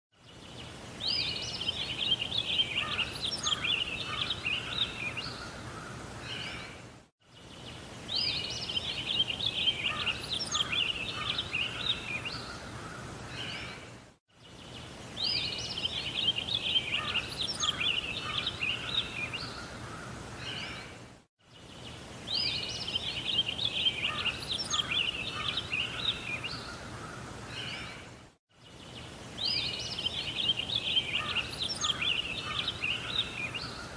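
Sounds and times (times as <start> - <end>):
bird chirping and warbling: 0.3 - 33.9.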